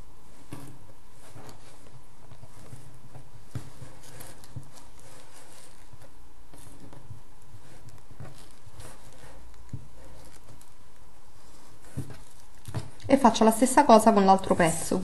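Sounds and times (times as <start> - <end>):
background hum: 0.0 - 15.0
hands folding felt: 0.0 - 15.0.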